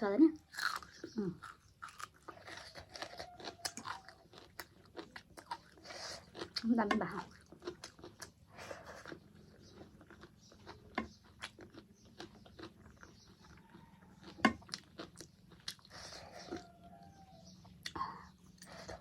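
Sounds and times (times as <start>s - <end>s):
person chewing: 0.5s - 19.0s.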